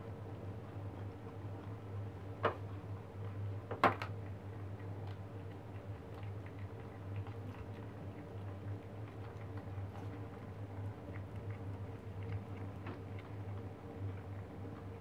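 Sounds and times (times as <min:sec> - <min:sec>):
kittens chewing and licking: 0:00.0 - 0:15.0.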